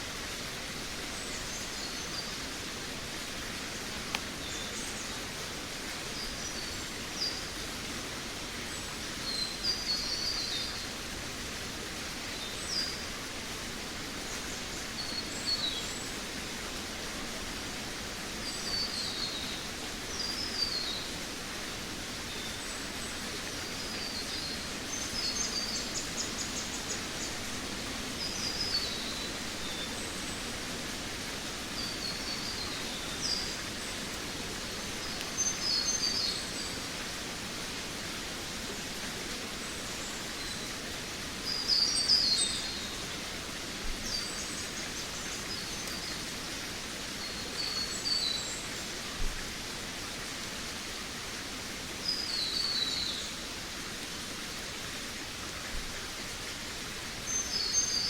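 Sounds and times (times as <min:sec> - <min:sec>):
forest birds chirping: 0:00.0 - 0:07.7, 0:13.8 - 0:49.8, 0:51.9 - 0:53.8, 0:56.6 - 0:58.0
background hiss: 0:00.0 - 0:58.0.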